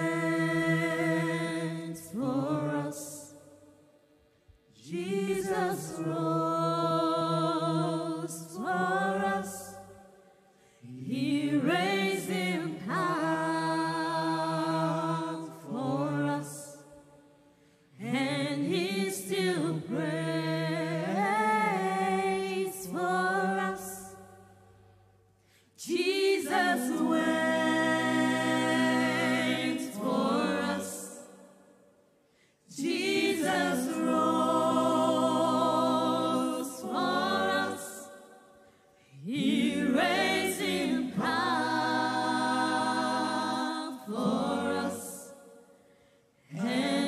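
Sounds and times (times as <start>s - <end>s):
choir singing gospel song: 0.0s - 3.8s, 4.7s - 24.7s, 25.5s - 47.0s.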